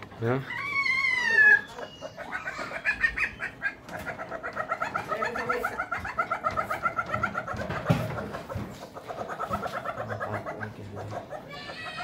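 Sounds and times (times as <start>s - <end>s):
civet clucking calls: 0.3s - 12.0s.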